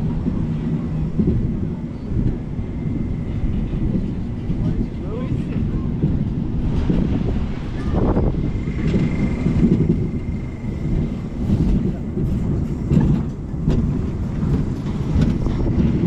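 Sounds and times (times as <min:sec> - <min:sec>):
ride train rumbling on track: 0:00.0 - 0:16.0.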